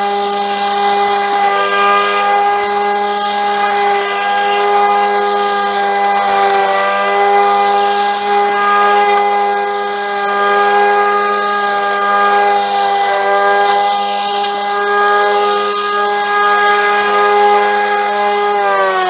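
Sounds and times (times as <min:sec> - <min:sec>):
electric trimmer cutting weeds: 0:00.0 - 0:19.0.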